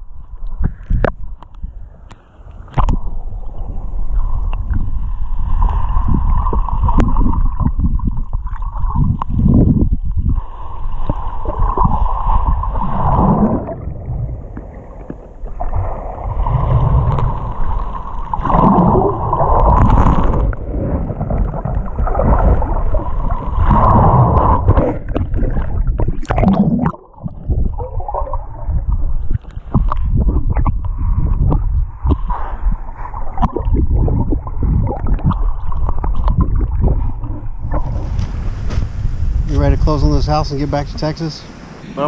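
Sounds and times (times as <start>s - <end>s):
muffled underwater surf churning: 0.0s - 42.0s.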